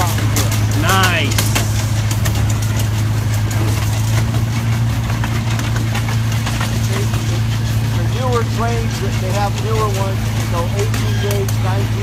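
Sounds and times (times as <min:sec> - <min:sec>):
miniature train engine droning: 0:00.0 - 0:12.0
wheels clicking on rails: 0:00.0 - 0:12.0.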